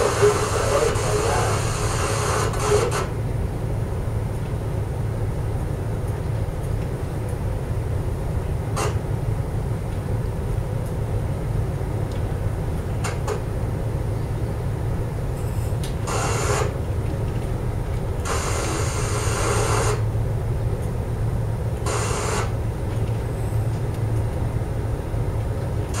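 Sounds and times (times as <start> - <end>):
ship engines rumbling: 0.0 - 26.0.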